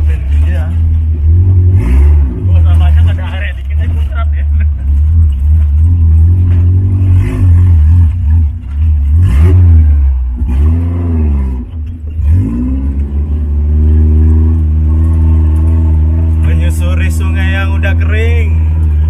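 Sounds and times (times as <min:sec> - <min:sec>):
heavy low rumble: 0:00.0 - 0:19.0
jeep engine revving: 0:00.0 - 0:19.0.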